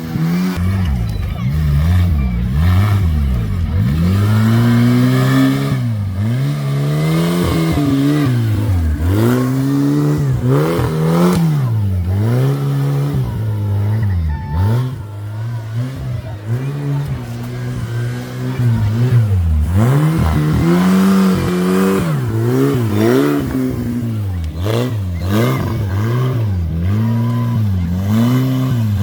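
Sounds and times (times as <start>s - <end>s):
tractor engine revving: 0.0s - 29.0s.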